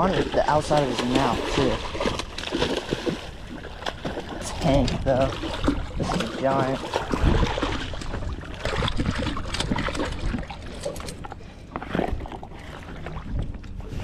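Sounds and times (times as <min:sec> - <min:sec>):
fish splashing in water: 0:00.0 - 0:13.2.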